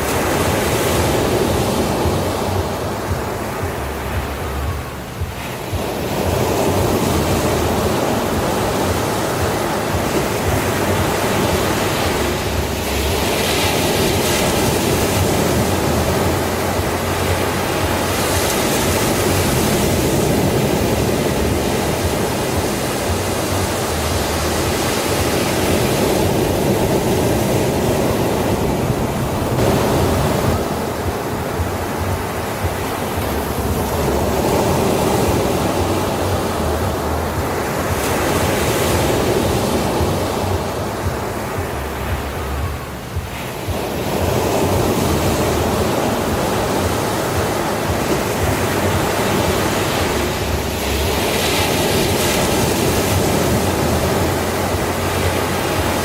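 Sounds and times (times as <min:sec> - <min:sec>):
sea waves breaking on beach: 0:00.0 - 0:56.0.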